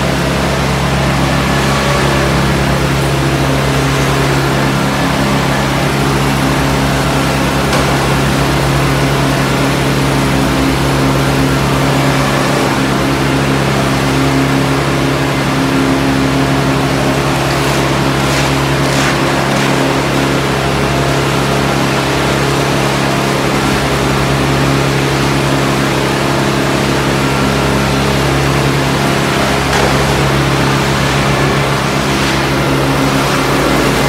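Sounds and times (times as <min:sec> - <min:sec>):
concrete buggy engine running: 0:00.0 - 0:34.0.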